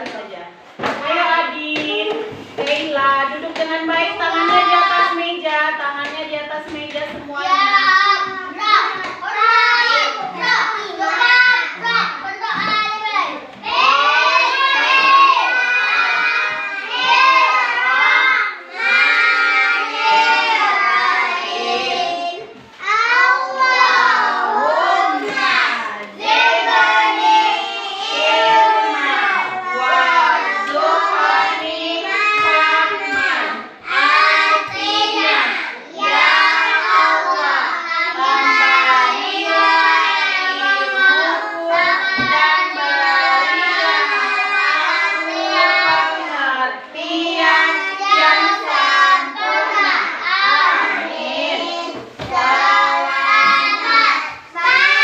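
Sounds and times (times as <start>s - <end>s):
children singing in unison: 3.9s - 5.2s, 6.6s - 55.0s.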